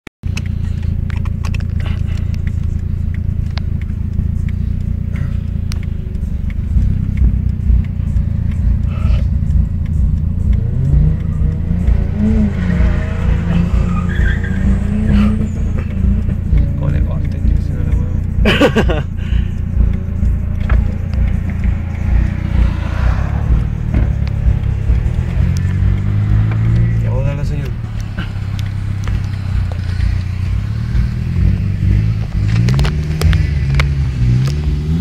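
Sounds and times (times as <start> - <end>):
car engine revving: 0.2 - 35.0
road and wind rumble: 0.2 - 35.0.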